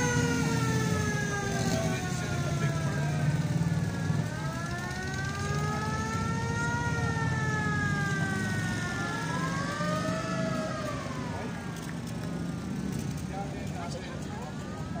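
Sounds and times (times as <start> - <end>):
siren wailing: 0.0 - 12.1
vehicle engines rumbling: 0.0 - 15.0.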